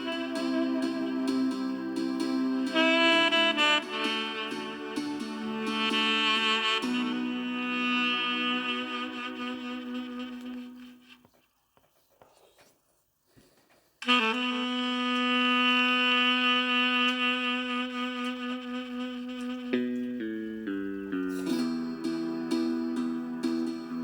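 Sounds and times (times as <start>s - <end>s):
tenor saxophone long notes: 0.0s - 11.3s, 14.0s - 24.0s.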